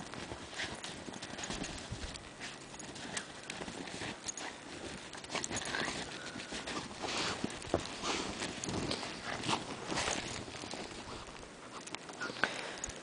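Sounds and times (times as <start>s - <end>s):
puppy scuffling in snow: 0.0s - 12.4s.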